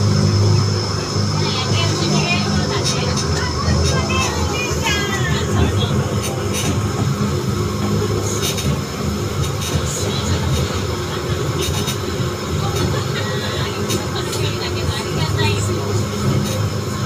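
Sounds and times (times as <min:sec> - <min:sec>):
train car rumbling on track: 0:00.0 - 0:17.0.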